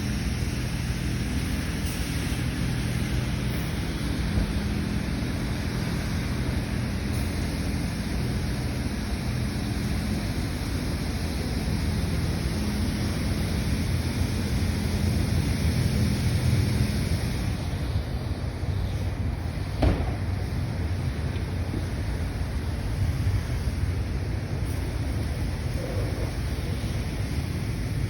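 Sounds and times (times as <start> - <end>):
high-pressure water spray hissing: 0.0 - 28.0
low machine hum: 0.0 - 28.0.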